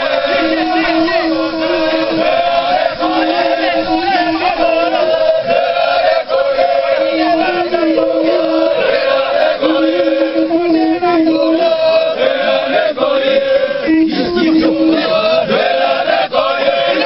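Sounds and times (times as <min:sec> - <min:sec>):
crowd of men chanting: 0:00.0 - 0:17.0.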